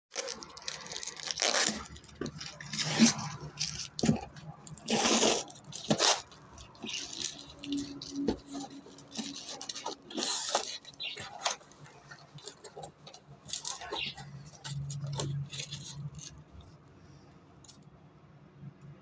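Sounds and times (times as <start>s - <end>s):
packaging rustling and tearing: 0.1s - 16.7s.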